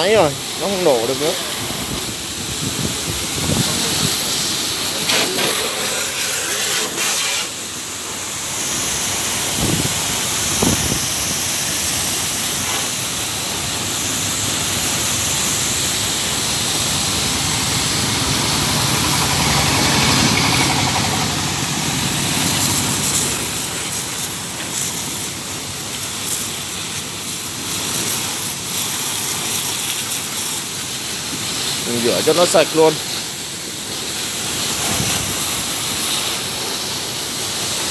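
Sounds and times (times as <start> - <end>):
water spraying from hose: 0.0 - 37.9.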